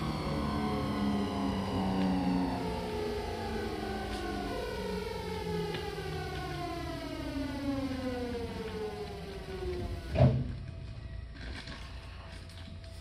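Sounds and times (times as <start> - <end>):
train motors whining falling pitch: 0.0 - 10.6
low running rumble: 0.0 - 11.2.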